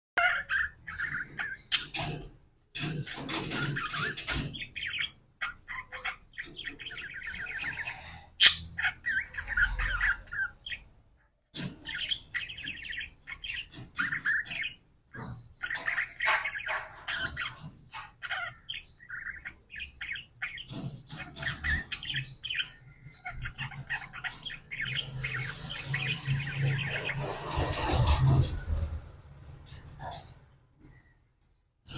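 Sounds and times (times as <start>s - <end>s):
parakeets chattering: 0.2s - 10.9s, 11.6s - 31.0s.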